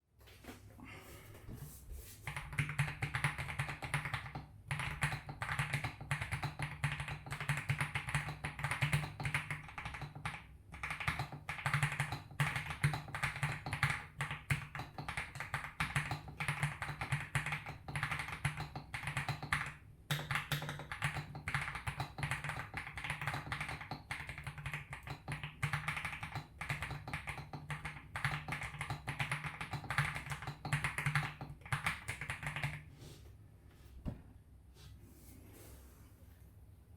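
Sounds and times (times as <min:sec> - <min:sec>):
mechanical keyboard typing: 0:02.3 - 0:32.8.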